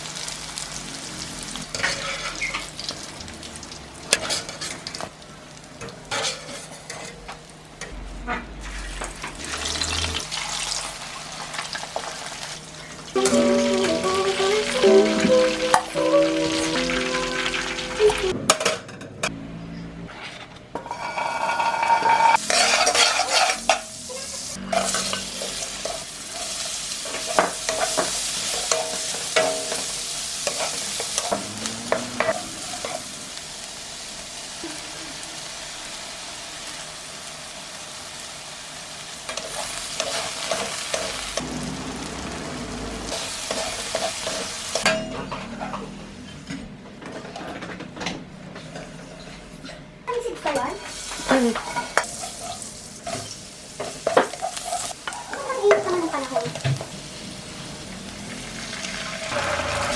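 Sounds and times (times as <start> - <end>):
food sizzling in hot oil: 0.0 - 18.4, 20.8 - 45.0, 50.1 - 59.9.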